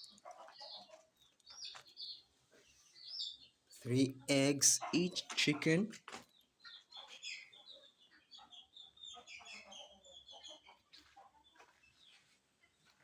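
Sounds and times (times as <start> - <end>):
chickens clucking and chirping: 0.0 - 13.0.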